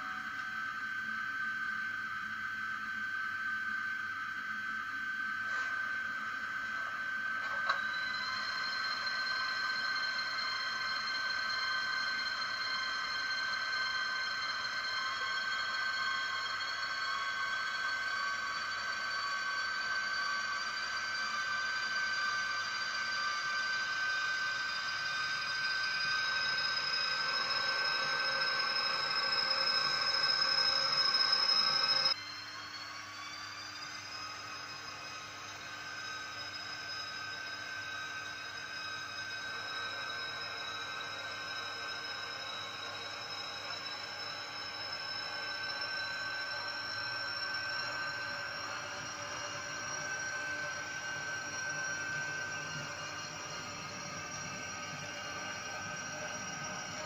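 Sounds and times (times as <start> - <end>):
electric train motor whine rising: 0.0 - 57.0.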